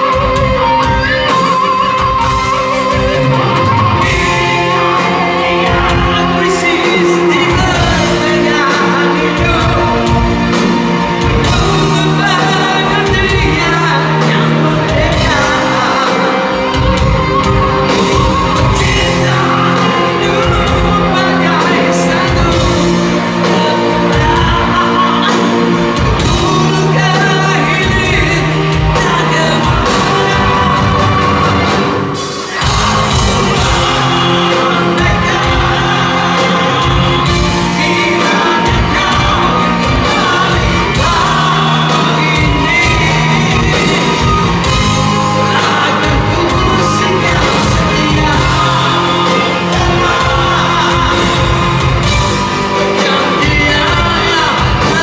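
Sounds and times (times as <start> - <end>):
live rock band: 0.0 - 55.0
person singing: 0.0 - 55.0.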